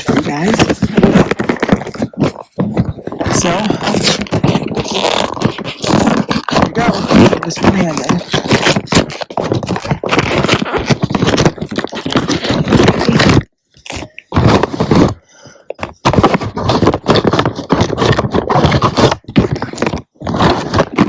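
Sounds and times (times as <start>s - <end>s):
cardboard box scraping and crinkling: 0.0s - 21.0s.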